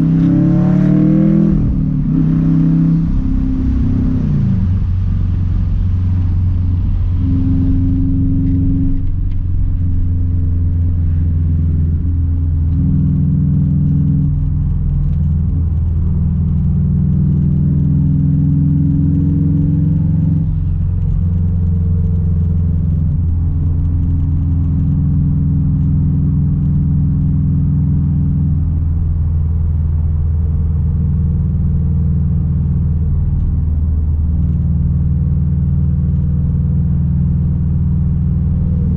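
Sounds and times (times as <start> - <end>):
deep car exhaust drone: 0.0 - 38.9.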